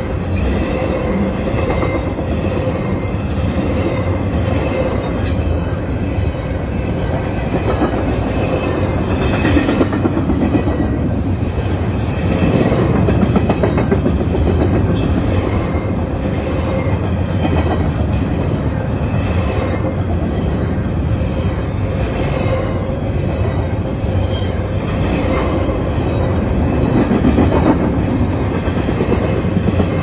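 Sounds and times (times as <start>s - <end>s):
train wheels rumbling on rails: 0.0s - 30.0s
wheels clacking over rail joints: 0.0s - 30.0s.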